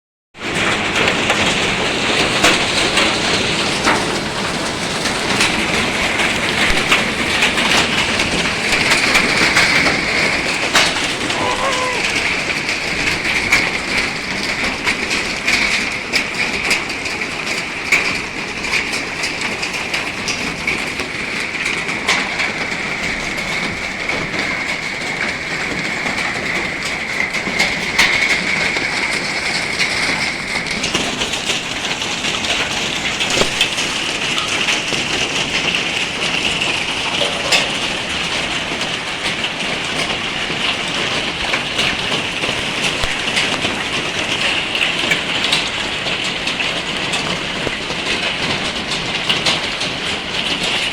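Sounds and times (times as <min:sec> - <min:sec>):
hailstones clattering on surfaces: 0:00.4 - 0:12.0, 0:12.7 - 0:50.9.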